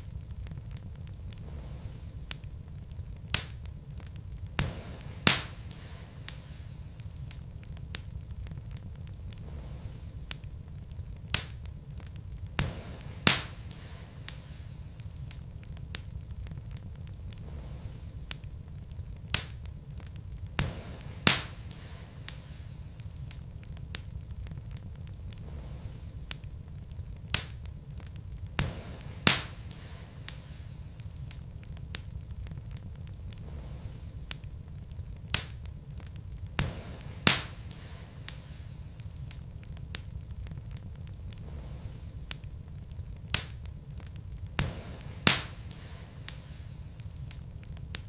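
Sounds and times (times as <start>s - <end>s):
fire rumbling: 0.0s - 48.0s
logs crackling and popping: 0.0s - 48.0s.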